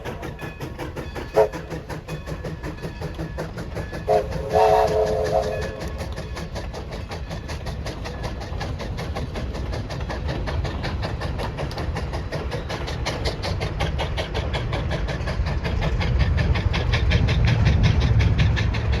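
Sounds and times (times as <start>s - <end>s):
steam locomotive running by: 0.0s - 19.0s.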